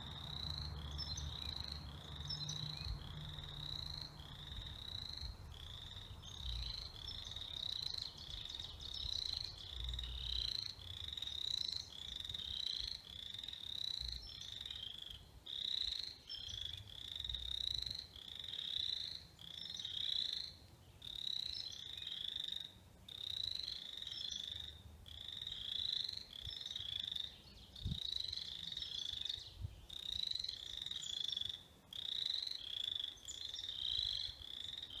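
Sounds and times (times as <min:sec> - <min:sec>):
frogs calling: 0:00.0 - 0:35.0.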